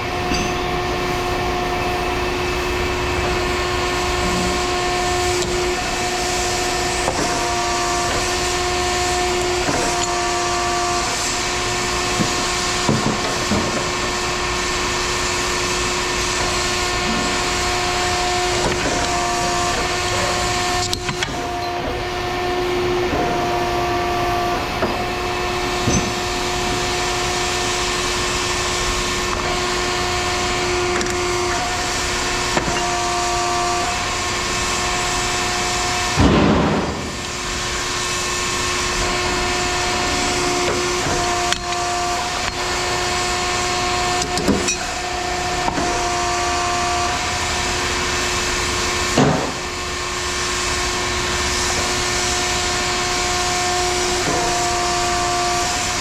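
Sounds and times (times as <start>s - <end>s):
pitched hums: 0.0s - 49.0s
mechanical running noise: 0.0s - 56.0s.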